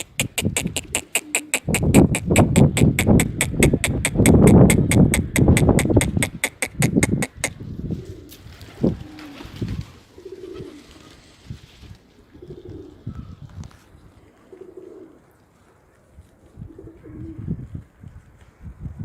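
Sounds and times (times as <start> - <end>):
pigeon cooing: 0.0 - 11.4, 12.2 - 15.4, 16.6 - 17.6.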